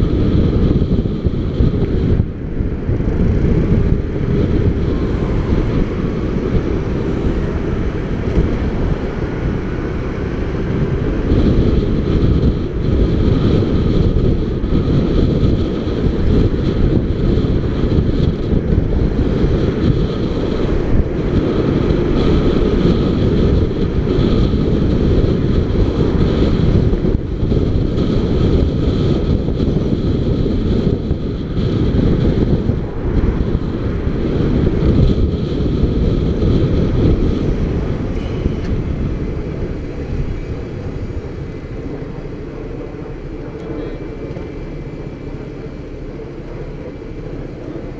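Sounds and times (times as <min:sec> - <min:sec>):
motorcycle engine: 0:00.0 - 0:47.9
road noise: 0:00.0 - 0:47.9
wind buffeting microphone: 0:00.0 - 0:47.9.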